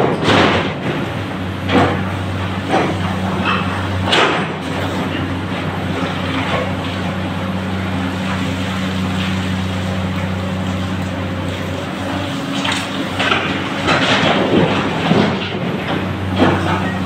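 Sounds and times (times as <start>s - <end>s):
diesel engines droning: 0.0s - 17.0s.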